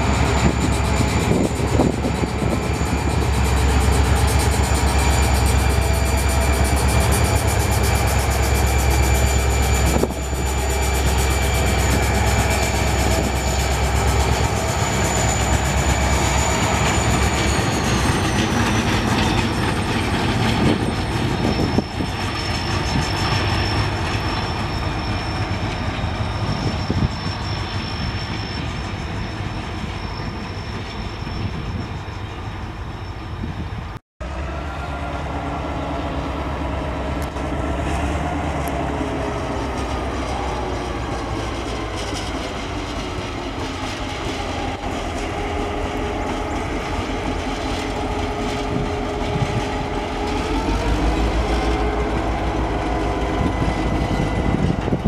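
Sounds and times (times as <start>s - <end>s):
wheels clattering on rails: 0.0s - 32.0s, 37.0s - 55.0s
locomotive engine drone: 0.0s - 55.0s.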